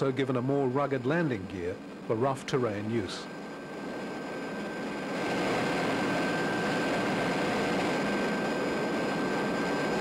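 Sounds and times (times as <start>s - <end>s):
high-pitched jet whine: 0.0s - 10.0s
jet engines running: 0.0s - 10.0s.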